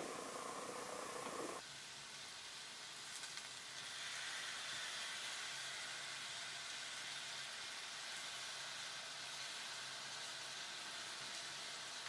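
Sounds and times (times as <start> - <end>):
apples sizzling in a frying pan: 0.0 - 12.0.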